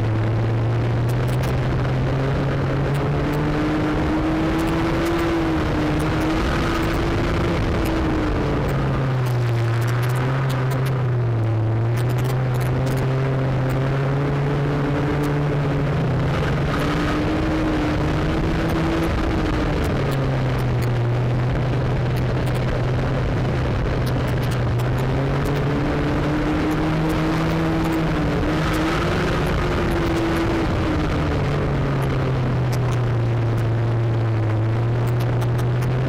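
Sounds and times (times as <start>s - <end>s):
race car engine revving: 0.0s - 36.0s
road and wind noise: 0.0s - 36.0s
scattered clicks: 0.7s - 15.7s, 16.3s - 36.0s.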